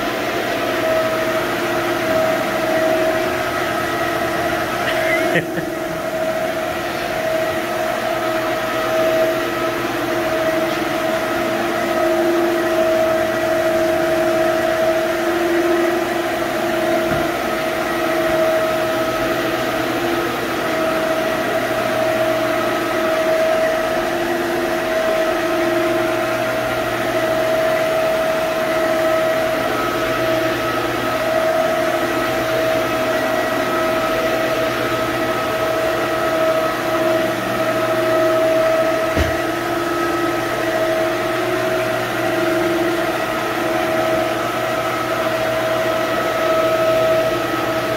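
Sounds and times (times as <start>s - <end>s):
floor scrubbing machine motor hum: 0.0s - 47.9s.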